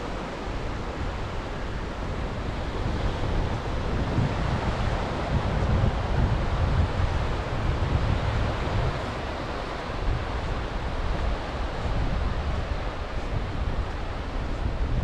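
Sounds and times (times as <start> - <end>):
sea surf washing on shore: 0.0 - 15.0
wind buffeting microphone: 0.0 - 15.0.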